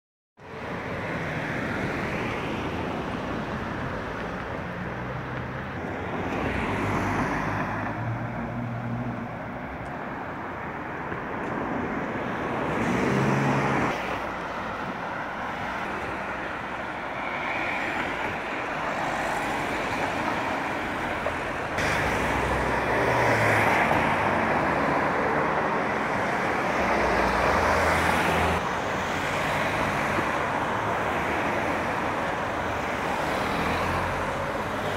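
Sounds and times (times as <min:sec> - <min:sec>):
cars passing on wet road: 0:00.4 - 0:34.9
traffic background: 0:00.4 - 0:34.9.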